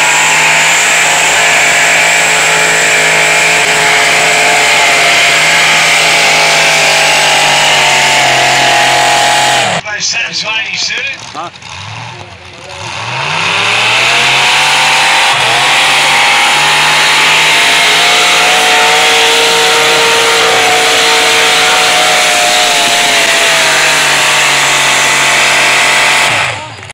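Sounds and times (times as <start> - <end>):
tractor engine at full throttle: 0.0 - 26.9.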